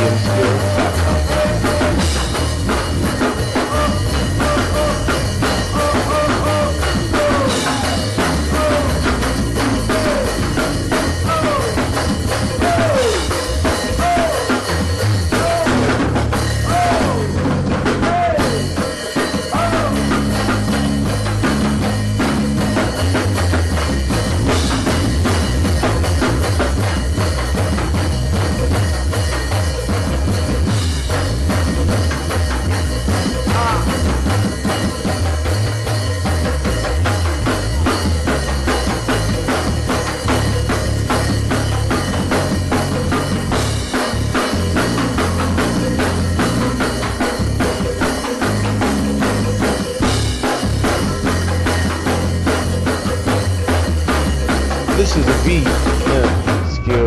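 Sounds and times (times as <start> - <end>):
bass groove: 0.0 - 57.0
drum kit: 0.0 - 57.0.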